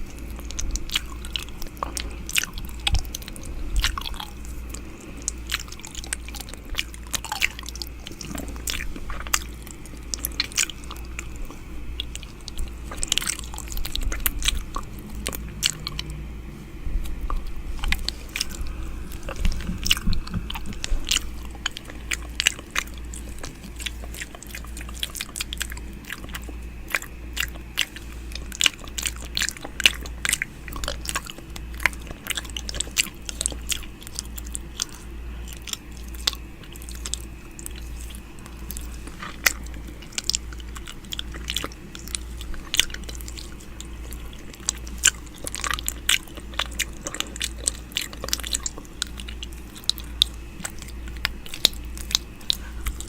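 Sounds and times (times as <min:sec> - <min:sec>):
low steady hum: 0:00.0 - 0:53.0
wet mouth clicks and smacks: 0:00.1 - 0:16.2, 0:17.0 - 0:53.0.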